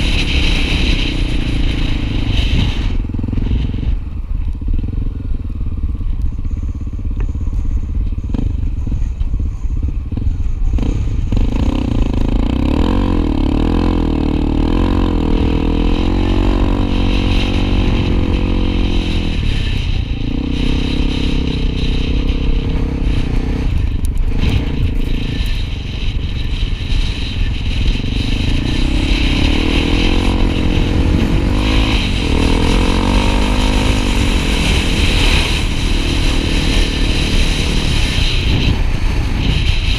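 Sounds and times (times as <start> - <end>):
heavy low rumble: 0.0 - 39.9
motorcycle engine revving: 0.0 - 39.9.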